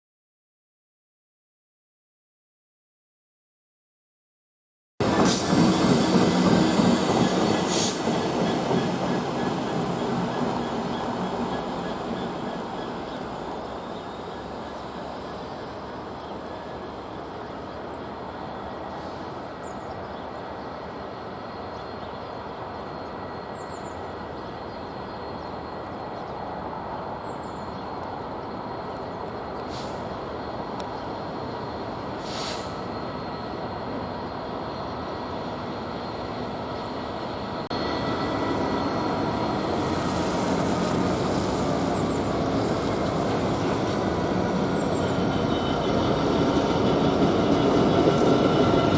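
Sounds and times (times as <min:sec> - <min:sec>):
train wheels rumbling on track: 0:05.0 - 0:48.9.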